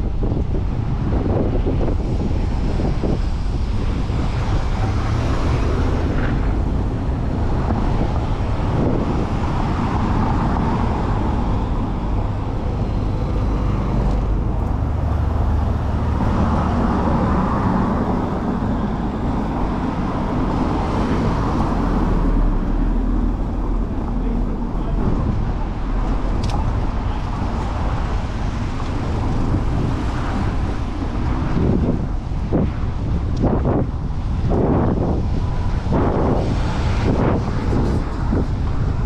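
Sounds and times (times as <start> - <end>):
city road traffic: 0.0 - 39.0
wind rumbling on microphone: 0.0 - 39.0.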